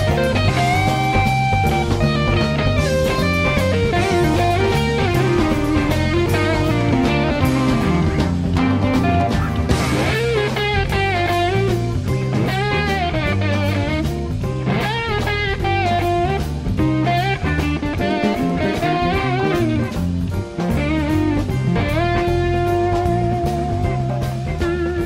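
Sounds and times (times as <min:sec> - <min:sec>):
bass: 0:00.0 - 0:25.0
drums: 0:00.0 - 0:25.0
electric slide guitar solo: 0:00.0 - 0:25.0.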